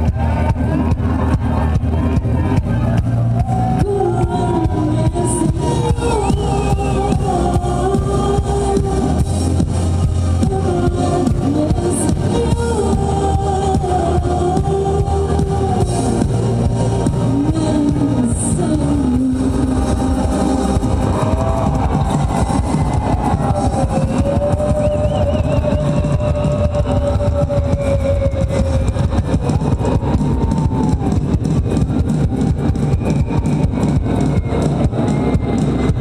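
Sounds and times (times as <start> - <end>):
live band with synth keyboards: 0.0 - 36.0.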